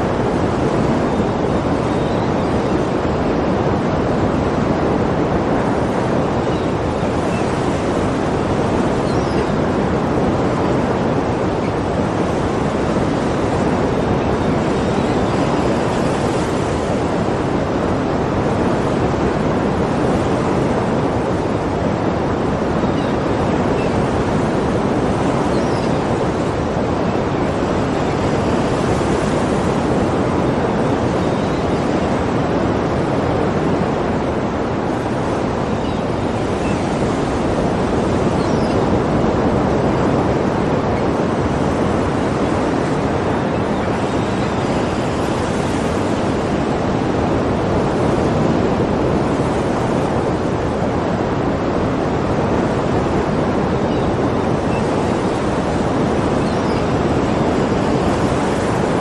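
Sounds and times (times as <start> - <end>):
waves washing: 0.0 - 59.0.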